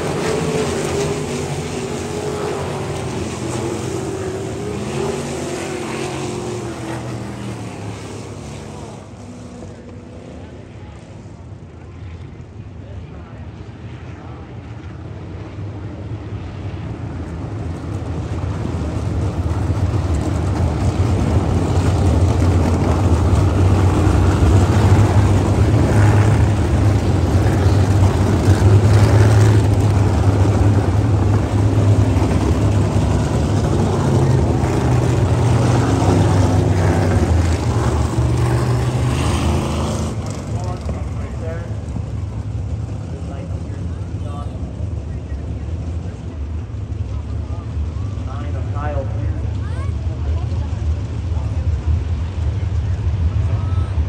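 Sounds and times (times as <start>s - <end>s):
race car engines droning: 0.0s - 54.0s.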